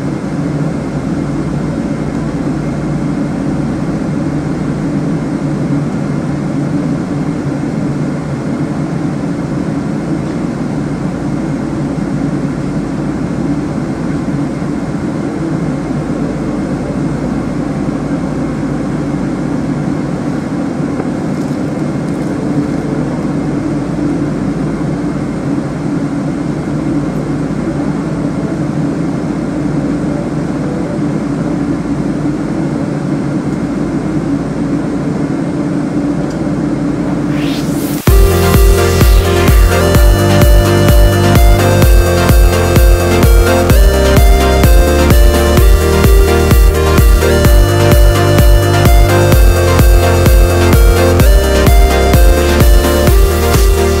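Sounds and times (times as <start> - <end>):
airplane cabin engine hum: 0.0 - 54.0.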